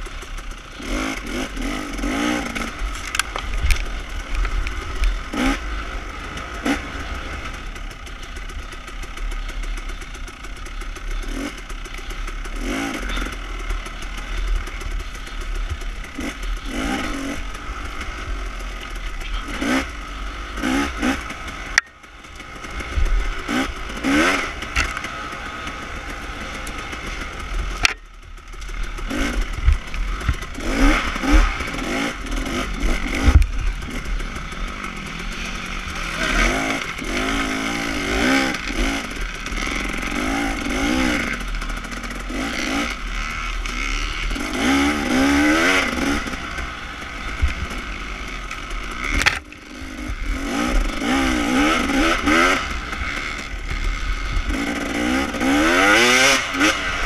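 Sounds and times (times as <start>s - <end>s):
bike rattling over rough ground: 0.0s - 57.0s
dirt bike engine revving: 0.0s - 57.0s.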